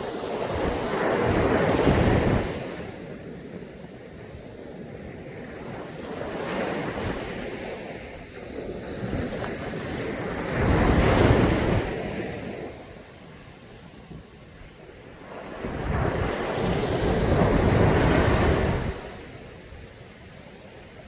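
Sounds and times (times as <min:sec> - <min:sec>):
sea waves breaking on beach: 0:00.0 - 0:21.0
wind on microphone: 0:00.0 - 0:21.0.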